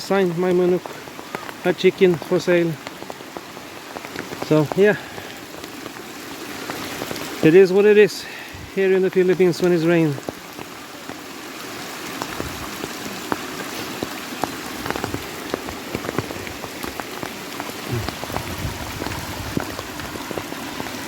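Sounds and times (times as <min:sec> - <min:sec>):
rain hissing: 0:00.0 - 0:21.0
raindrops tapping: 0:00.0 - 0:21.0.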